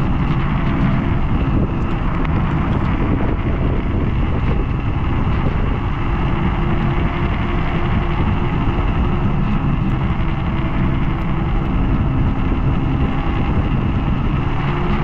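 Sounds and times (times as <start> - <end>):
road rumble: 0.0 - 15.0
wind buffeting microphone: 0.0 - 15.0.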